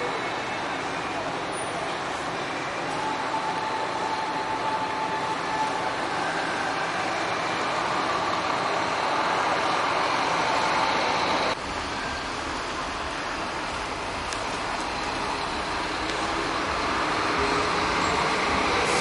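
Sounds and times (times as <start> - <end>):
diesel coach engine: 0.0 - 19.0.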